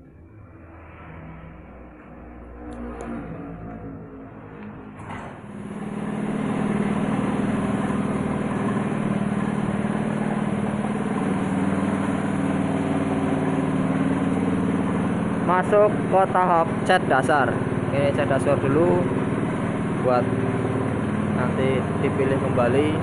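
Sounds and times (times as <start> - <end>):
air compressor running: 4.3 - 23.0.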